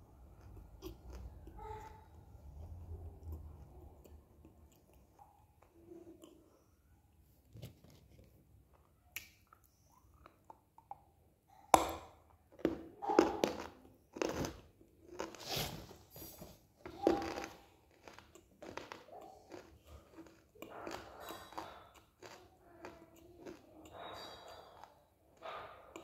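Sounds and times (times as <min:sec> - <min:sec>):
crunching chewing of clay: 0:00.0 - 0:06.7, 0:11.8 - 0:26.0.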